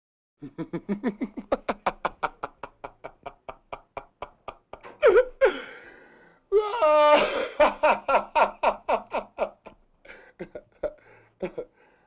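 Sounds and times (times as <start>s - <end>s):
men laughing hysterically: 0.4s - 5.7s, 6.8s - 11.7s.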